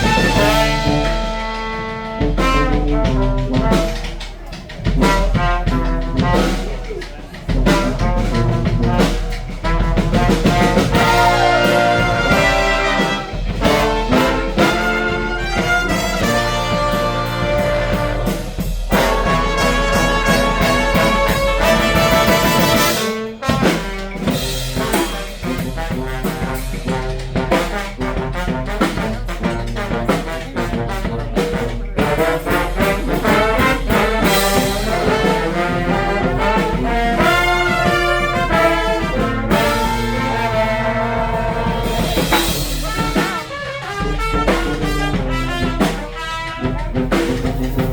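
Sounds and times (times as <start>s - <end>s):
street brass band playing: 0.0s - 47.9s.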